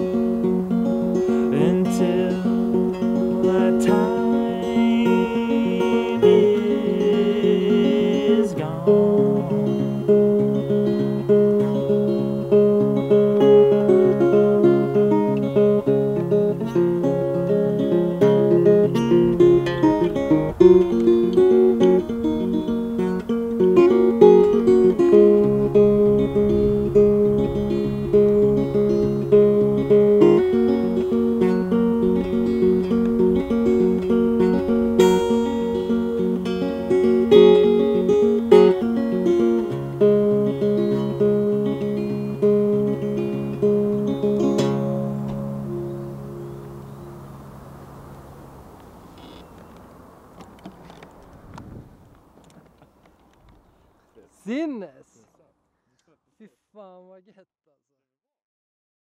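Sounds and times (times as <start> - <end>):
fingerpicked acoustic guitar: 0.0 - 52.4.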